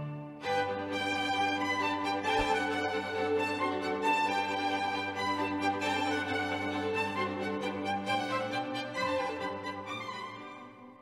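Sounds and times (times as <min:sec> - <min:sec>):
orchestral theme music with strings: 0:00.0 - 0:11.0.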